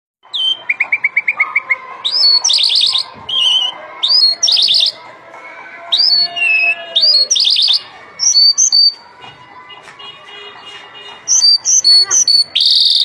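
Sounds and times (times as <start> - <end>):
bird singing: 0.2 - 5.0, 5.8 - 9.0, 10.6 - 13.0.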